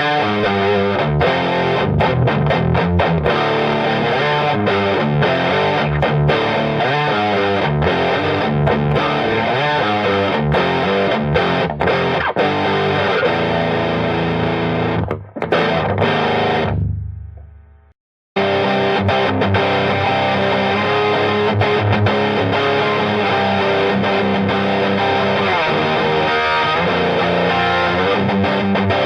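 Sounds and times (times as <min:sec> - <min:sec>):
distorted electric guitar lead: 0:00.0 - 0:17.8, 0:18.4 - 0:29.0.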